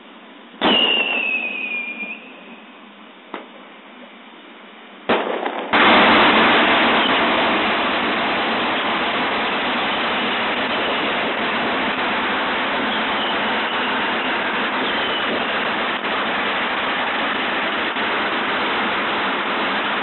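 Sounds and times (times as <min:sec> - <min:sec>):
fireworks rushing noise: 0:00.0 - 0:03.7, 0:05.0 - 0:20.0
firework crack: 0:00.6 - 0:03.8, 0:05.0 - 0:20.0.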